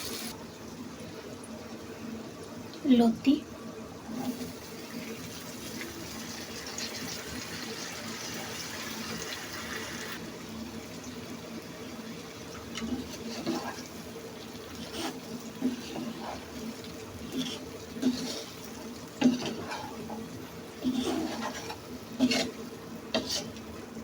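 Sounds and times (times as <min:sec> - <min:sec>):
pan sizzling: 0:00.0 - 0:00.4, 0:04.0 - 0:24.0.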